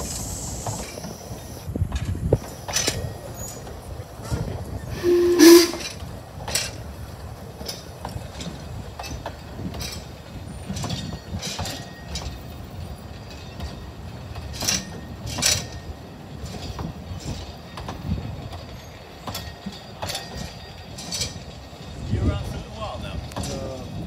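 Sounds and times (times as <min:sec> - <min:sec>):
train rolling rumble: 0:00.0 - 0:24.0
wheels clunking over rail joints: 0:00.6 - 0:24.0.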